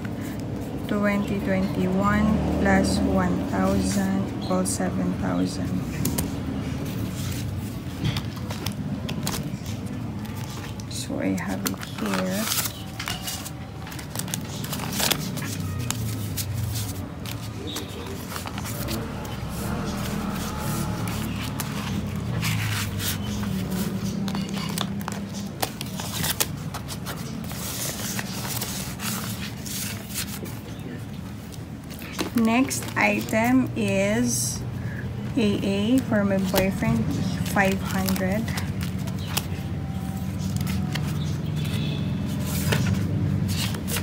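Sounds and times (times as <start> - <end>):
plastic pouches and banknotes rustling: 3.5 - 44.0.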